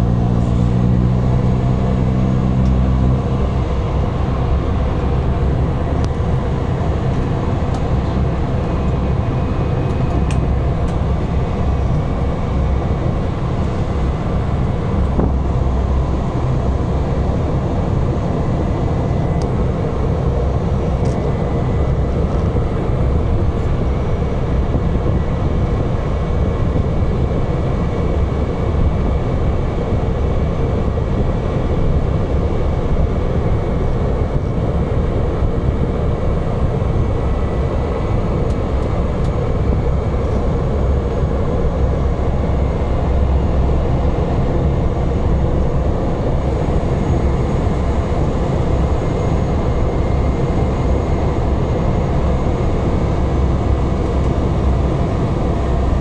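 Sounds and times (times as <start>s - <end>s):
turboprop engine drone in cabin: 0.0s - 56.0s.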